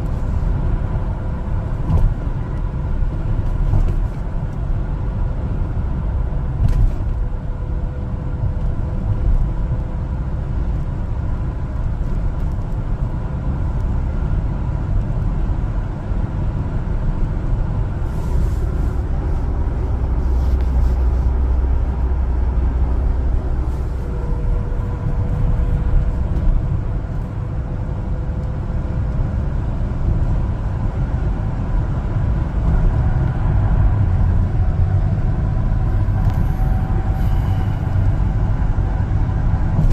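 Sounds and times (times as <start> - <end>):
road noise: 0.0 - 39.9
truck engine rumbling: 0.0 - 39.9.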